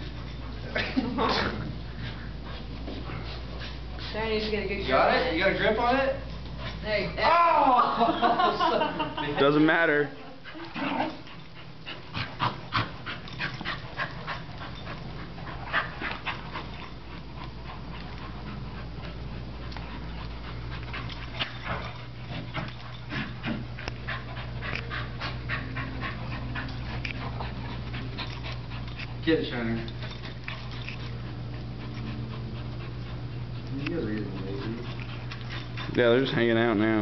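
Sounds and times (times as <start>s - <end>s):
dogs panting: 0.0s - 37.0s.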